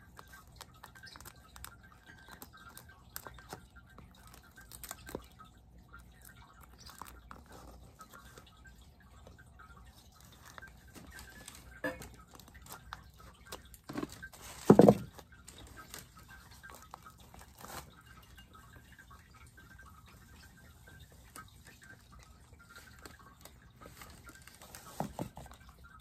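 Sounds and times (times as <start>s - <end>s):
paper wrapping rustling: 0.0s - 5.3s, 9.9s - 26.0s.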